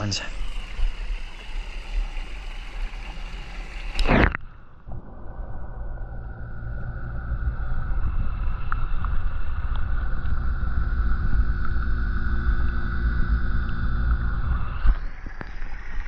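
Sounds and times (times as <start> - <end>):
faint steady hum: 0.0 - 16.0
muffled underwater rumble: 0.0 - 16.0.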